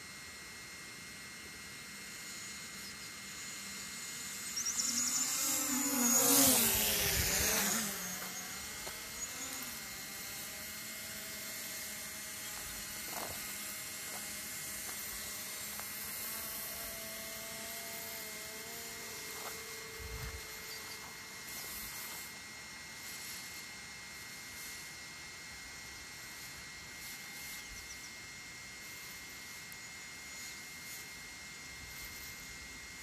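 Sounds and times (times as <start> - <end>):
drone propeller whine: 0.0 - 33.0.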